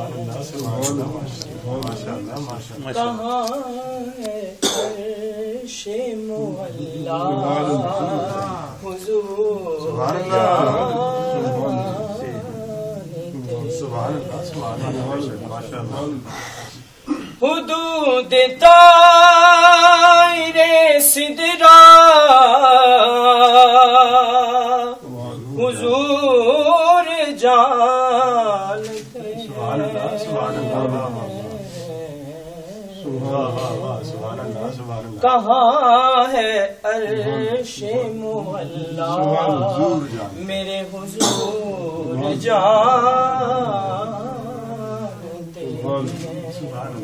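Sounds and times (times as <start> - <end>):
man chanting devotional poem: 0.0 - 47.0
man singing unaccompanied: 0.0 - 47.0.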